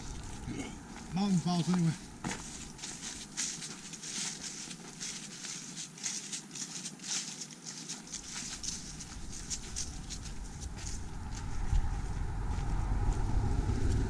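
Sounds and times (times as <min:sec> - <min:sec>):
footsteps on dry leaves: 0:00.0 - 0:13.8.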